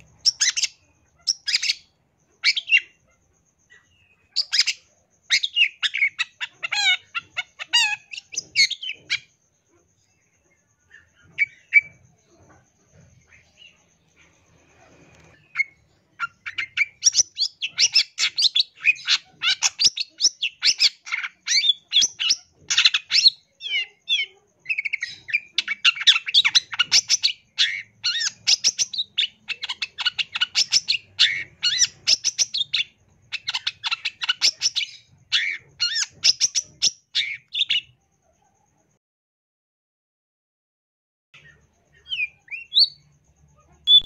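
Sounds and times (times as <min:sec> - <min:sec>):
bird singing chattering trills: 0:00.0 - 0:38.0, 0:41.4 - 0:44.0.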